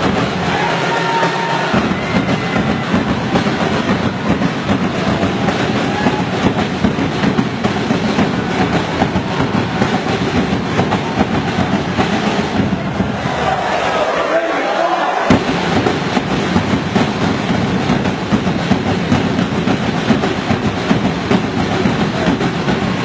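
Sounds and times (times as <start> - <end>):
fast dense drumming: 0.0 - 14.3, 15.2 - 23.0
crowd noise: 0.0 - 23.0.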